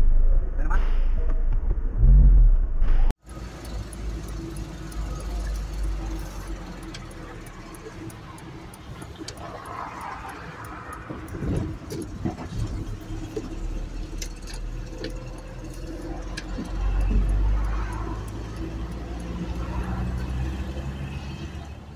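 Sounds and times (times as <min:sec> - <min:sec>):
light rattles and clicks: 0:03.2 - 0:21.8
diesel truck engine from cab: 0:03.2 - 0:21.9.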